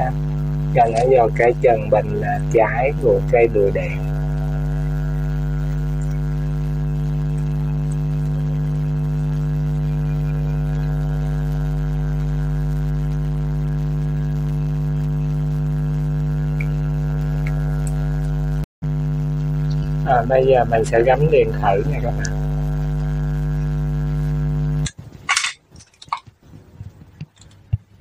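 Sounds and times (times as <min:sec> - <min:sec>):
low droning hum: 0:00.0 - 0:25.6.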